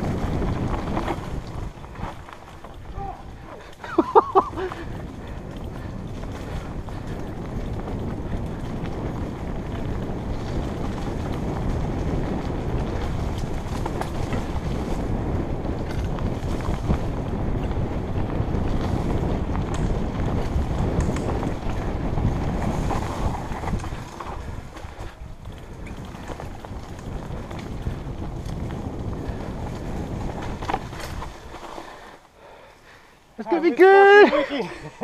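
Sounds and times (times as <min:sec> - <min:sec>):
bike knocks and rattles: 0:00.0 - 0:32.0
wind rushing over microphone: 0:00.0 - 0:33.0
bike tyre noise: 0:00.0 - 0:35.0.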